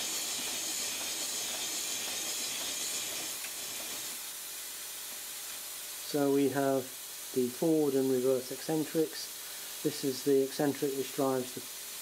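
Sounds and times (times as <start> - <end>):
compressed air hissing: 0.0 - 4.4, 6.5 - 12.0.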